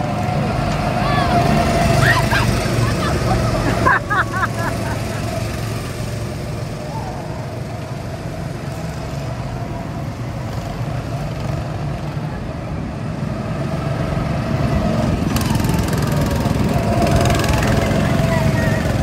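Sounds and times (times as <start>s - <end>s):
go-kart engines running: 0.0s - 19.0s.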